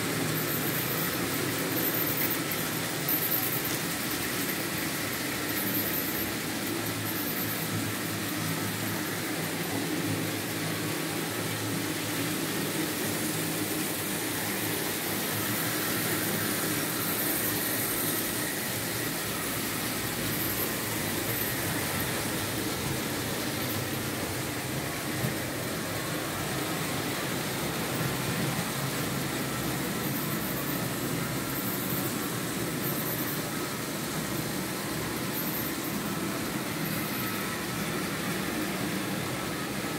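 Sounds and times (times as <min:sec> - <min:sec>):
model trains running on rails: 0:00.0 - 0:39.9.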